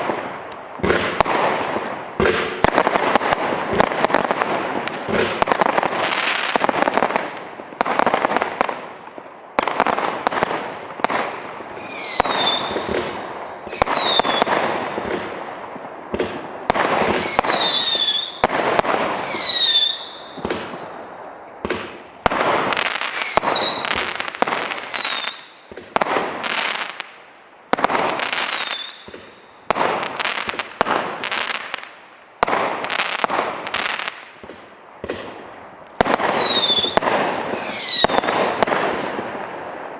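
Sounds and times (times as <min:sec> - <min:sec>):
whistling firework shots: 0:00.0 - 0:08.8, 0:09.6 - 0:39.9
fireworks crackling volleys: 0:00.0 - 0:39.9.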